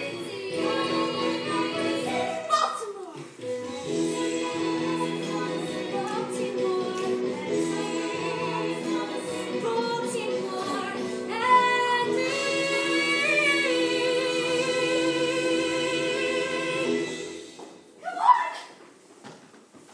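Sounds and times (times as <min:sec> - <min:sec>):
women singing: 0:00.0 - 0:02.6, 0:03.6 - 0:17.1
musical backing: 0:00.0 - 0:18.9.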